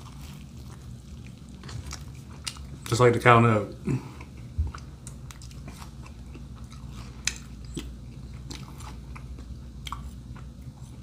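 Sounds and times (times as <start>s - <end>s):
person chewing: 0.0s - 2.9s, 3.9s - 11.0s.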